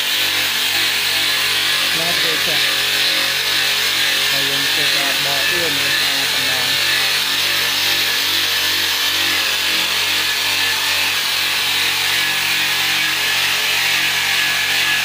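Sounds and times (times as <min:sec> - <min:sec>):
drill sanding wood: 0:00.0 - 0:15.0.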